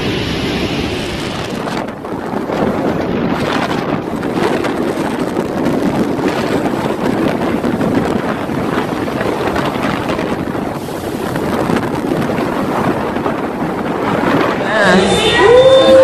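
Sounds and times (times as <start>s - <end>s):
floodwater rushing and breaking: 0.0s - 16.0s
wind buffeting microphone: 0.0s - 16.0s.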